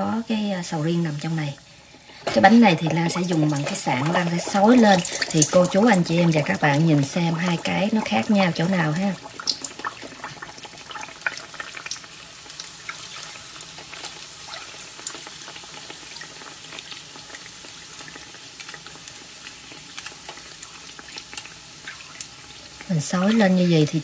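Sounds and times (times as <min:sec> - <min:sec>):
dough deep-frying in hot oil: 0:00.0 - 0:24.0.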